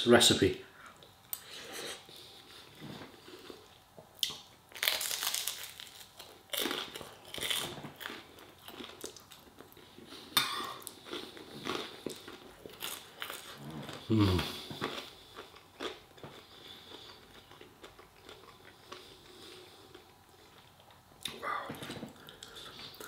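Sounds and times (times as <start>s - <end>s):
crunching and chewing bread: 2.1s - 23.0s.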